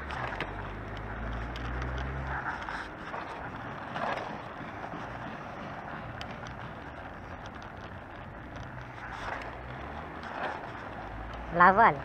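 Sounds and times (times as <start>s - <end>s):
scooter wheels rolling on asphalt: 0.0s - 12.0s.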